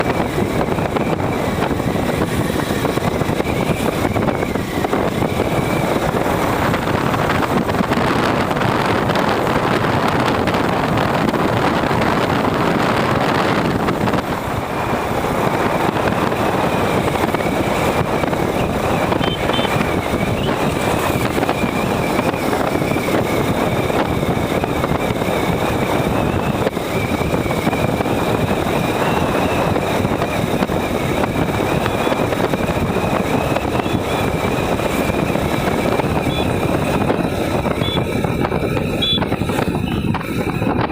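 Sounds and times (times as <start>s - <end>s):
motorcycle road noise: 0.0s - 40.9s
wind buffeting microphone: 0.0s - 40.9s.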